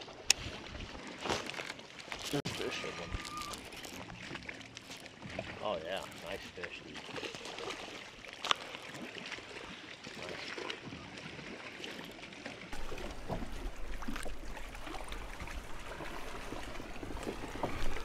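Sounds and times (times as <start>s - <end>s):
water splashing and lapping: 0.0s - 18.0s.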